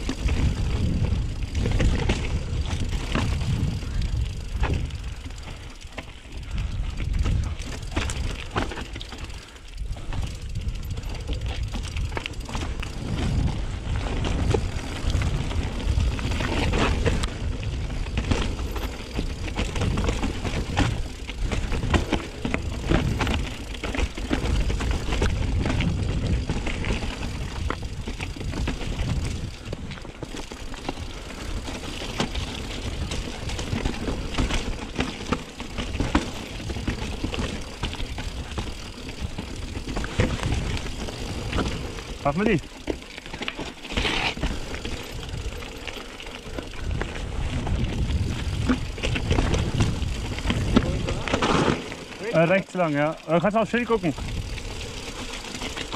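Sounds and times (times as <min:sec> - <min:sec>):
bike clicks and rattles: 0:00.0 - 0:55.9
bike tyres rolling over gravel: 0:00.0 - 0:55.9.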